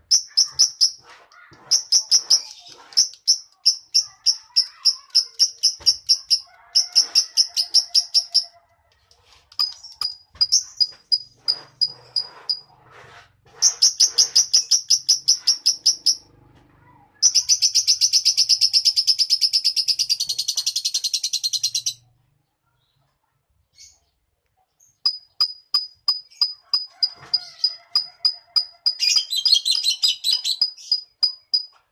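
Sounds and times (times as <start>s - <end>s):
bird chirping and trilling: 0.1s - 8.5s, 9.6s - 12.3s, 13.6s - 16.3s, 17.2s - 22.0s, 23.7s - 31.8s.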